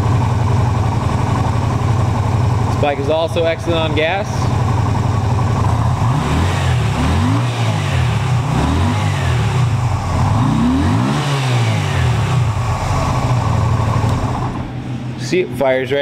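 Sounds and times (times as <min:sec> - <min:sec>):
motorcycle engine revving: 0:00.0 - 0:15.2.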